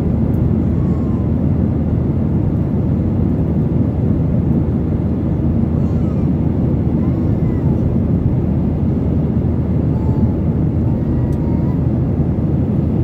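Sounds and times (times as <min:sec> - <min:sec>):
jet airliner roar in cabin: 0:00.0 - 0:13.0.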